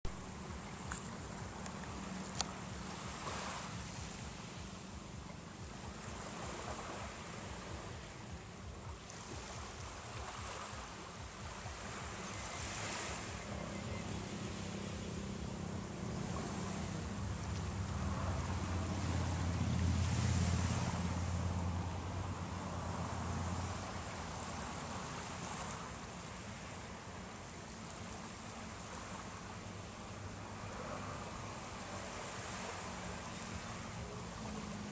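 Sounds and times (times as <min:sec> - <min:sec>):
low engine hum: 0:00.0 - 0:34.9
small waves washing on shore: 0:00.0 - 0:34.9.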